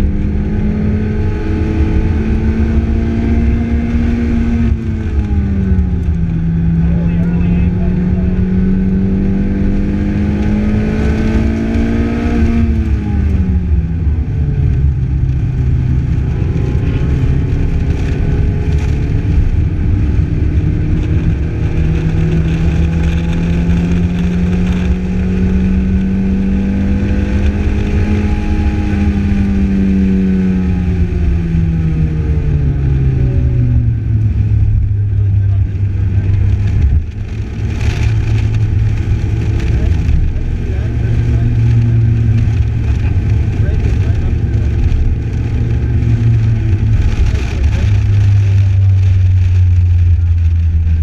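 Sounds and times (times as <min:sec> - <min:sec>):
car engine accelerating: 0:00.0 - 0:51.0
wind and road rush: 0:00.0 - 0:51.0.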